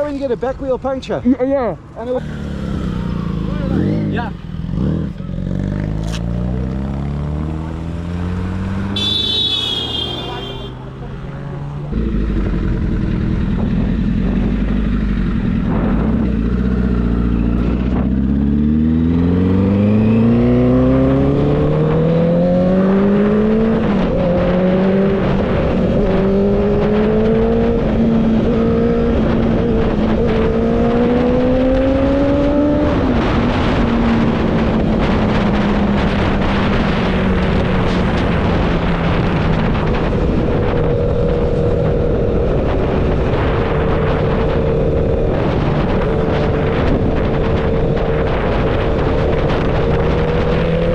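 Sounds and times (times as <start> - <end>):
road and wind noise: 0.0 - 50.9
vehicle engine accelerating: 2.0 - 50.9.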